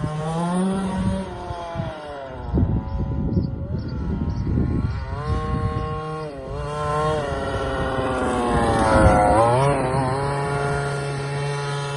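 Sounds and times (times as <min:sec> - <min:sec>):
model car engine revving: 0:00.0 - 0:11.9.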